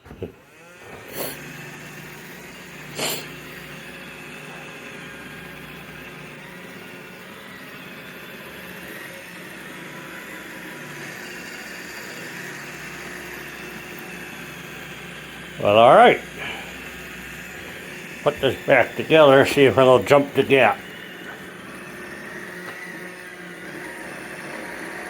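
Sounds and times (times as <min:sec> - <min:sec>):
robot vacuum running: 0:00.0 - 0:25.0.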